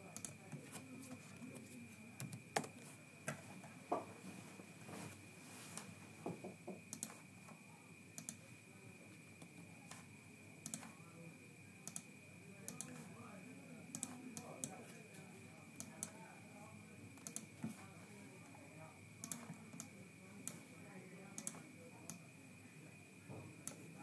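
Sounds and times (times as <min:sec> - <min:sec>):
room hiss: 0:00.0 - 0:24.0.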